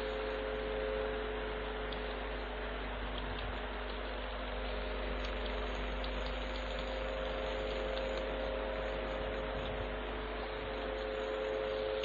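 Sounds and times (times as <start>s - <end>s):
constant hiss: 0.0s - 12.0s
electrical hum: 0.0s - 12.0s.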